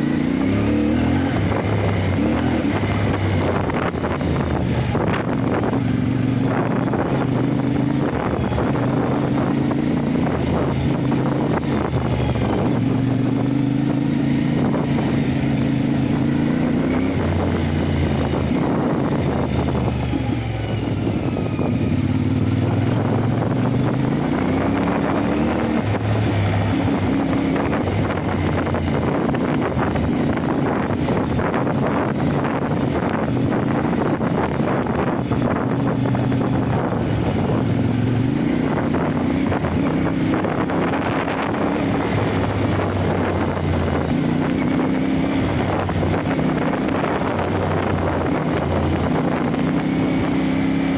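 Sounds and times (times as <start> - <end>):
motorcycle engine revving: 0.0 - 50.9
wind buffeting microphone: 0.0 - 50.9.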